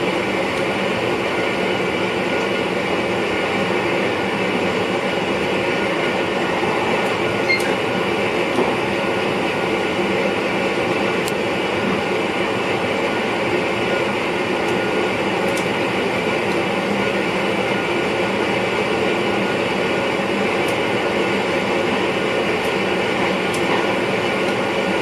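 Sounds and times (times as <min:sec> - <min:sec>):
electric train running noise: 0:00.0 - 0:25.0.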